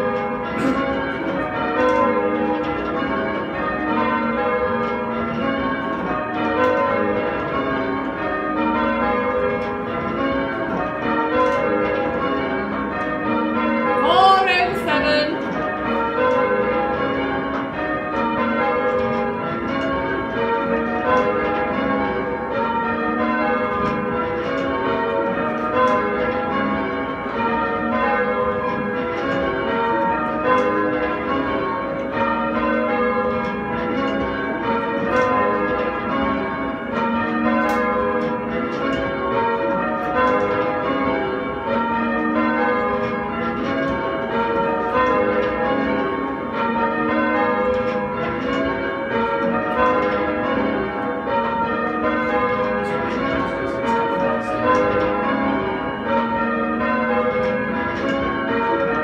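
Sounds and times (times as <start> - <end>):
church bells change ringing: 0.0 - 59.0.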